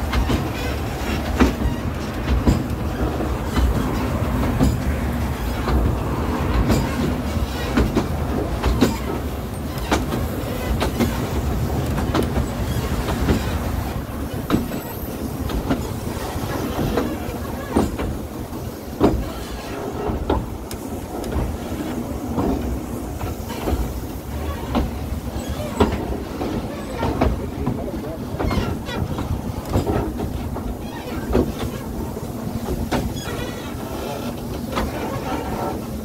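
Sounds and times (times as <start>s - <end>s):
train carriage rumbling: 0.0s - 36.0s
wheels clicking over rails: 0.0s - 36.0s.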